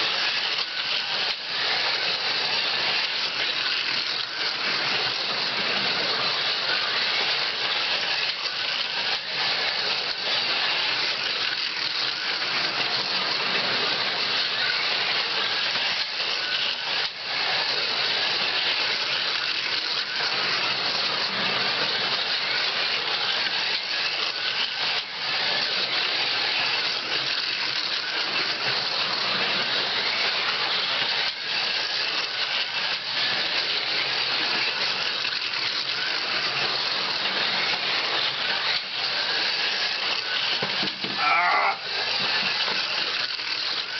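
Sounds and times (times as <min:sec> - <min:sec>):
slot cars whirring on track: 0:00.0 - 0:43.9.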